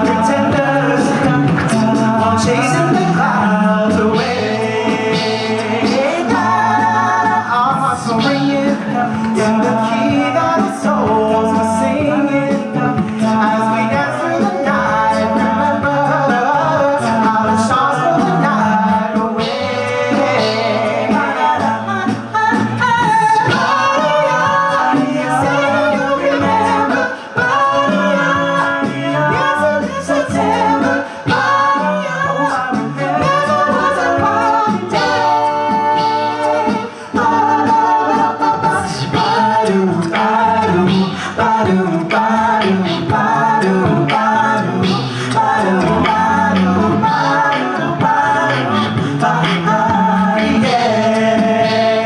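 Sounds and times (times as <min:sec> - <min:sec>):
male a cappella group singing: 0:00.0 - 0:52.0.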